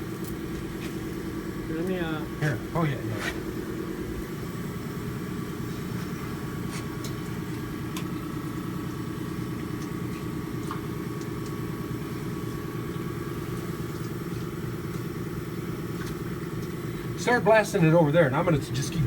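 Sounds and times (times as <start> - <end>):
motor humming with whine: 0.0 - 19.0.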